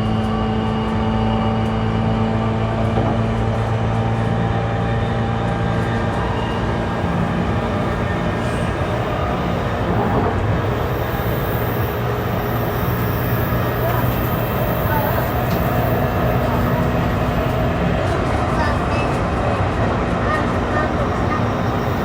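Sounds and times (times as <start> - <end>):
wheel and rail rumbling: 1.6 - 22.0.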